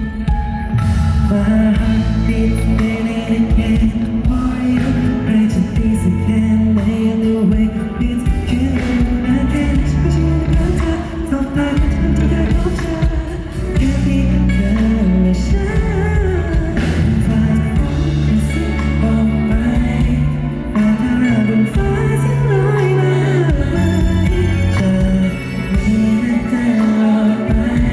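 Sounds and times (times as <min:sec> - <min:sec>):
amplified backing music with bass: 0:00.0 - 0:27.9
man singing: 0:00.0 - 0:27.9.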